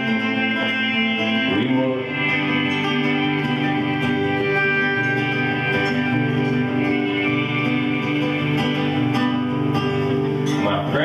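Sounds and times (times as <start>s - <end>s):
violin playing: 0.0s - 10.7s
acoustic guitar strumming: 0.0s - 11.0s.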